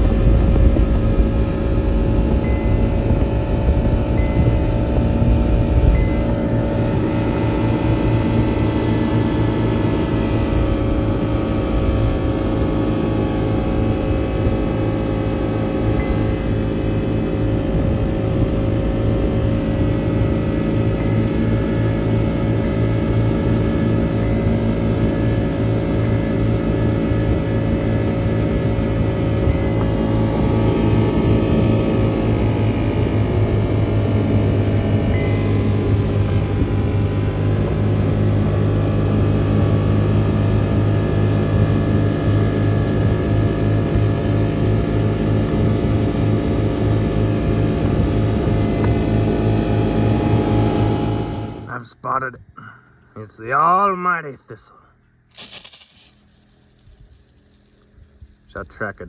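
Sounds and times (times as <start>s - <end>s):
vehicle engine droning: 0.0s - 51.7s.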